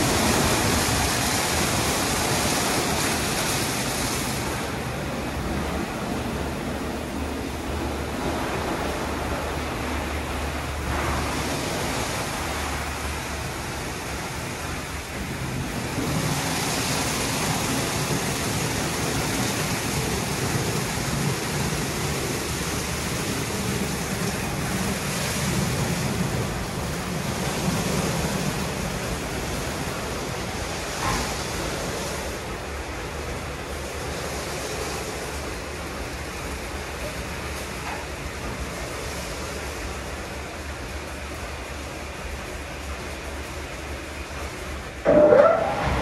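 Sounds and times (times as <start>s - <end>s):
car wash spray rushing: 0.0s - 46.0s.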